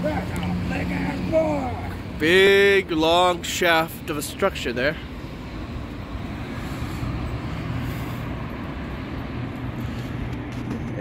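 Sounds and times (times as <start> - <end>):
street traffic drone: 0.0 - 11.0.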